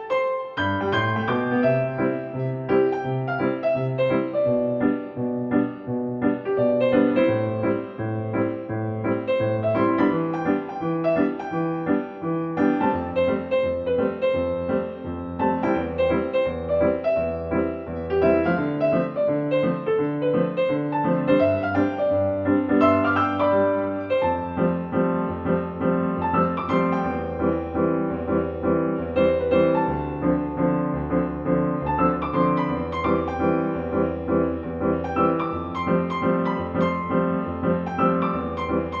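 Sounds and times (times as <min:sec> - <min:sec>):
gentle solo piano melody: 0:00.0 - 0:39.0.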